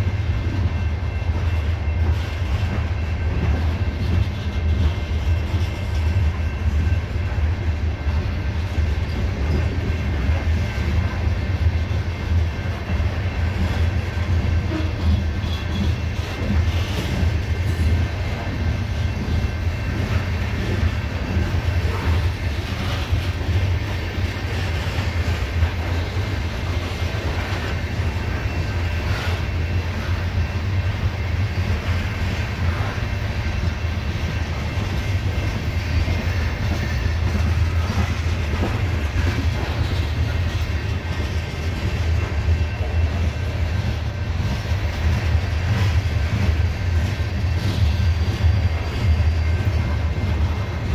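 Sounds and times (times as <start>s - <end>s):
freight cars rumbling on rails: 0.0s - 50.9s.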